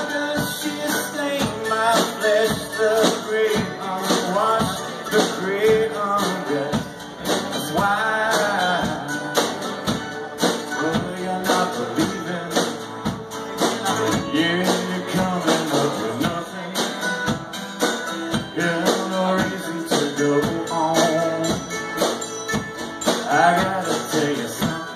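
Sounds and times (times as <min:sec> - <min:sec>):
man singing: 0:00.0 - 0:17.5, 0:18.3 - 0:22.2, 0:23.1 - 0:24.9
plucked string instrument: 0:00.0 - 0:24.9
strummed acoustic guitar: 0:00.0 - 0:24.9
percussion beat with tambourine: 0:00.3 - 0:24.9.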